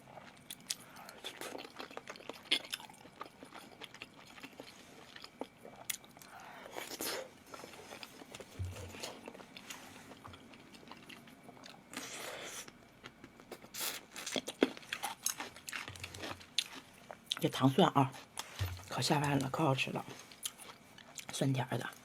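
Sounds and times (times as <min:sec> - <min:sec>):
person chewing and crunching: 0:00.0 - 0:22.0.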